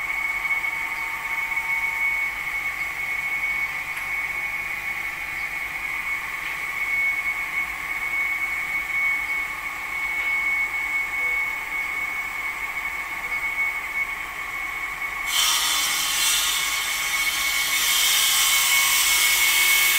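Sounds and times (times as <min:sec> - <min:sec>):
machine high whine: 0:00.0 - 0:19.9.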